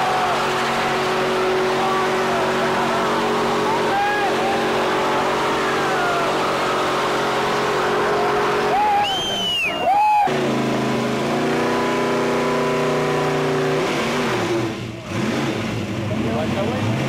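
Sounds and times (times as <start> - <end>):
car engine blips: 0.0 - 17.0
car engine running: 0.0 - 17.0.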